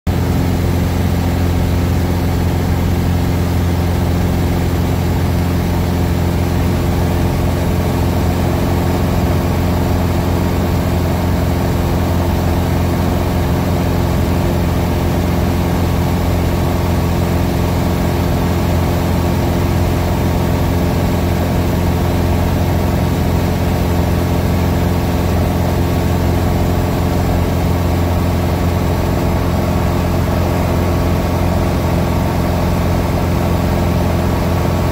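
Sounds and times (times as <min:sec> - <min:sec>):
light aircraft engine droning: 0:00.1 - 0:34.9.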